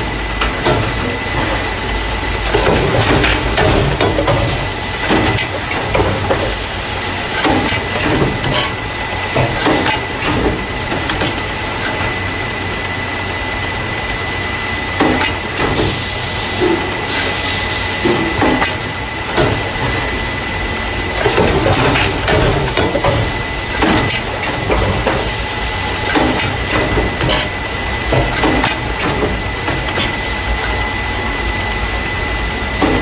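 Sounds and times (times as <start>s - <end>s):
mechanical clacks and knocks: 0.0s - 12.2s, 15.0s - 17.4s, 18.0s - 30.8s, 32.8s - 33.0s.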